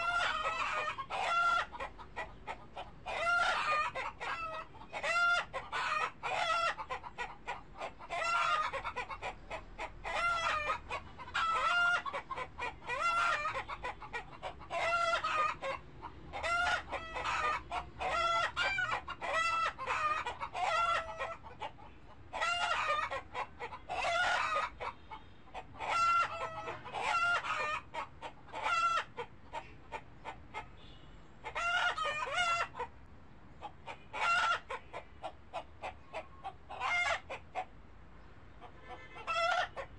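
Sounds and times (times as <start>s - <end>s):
chickens clucking and squawking: 0.0s - 39.9s.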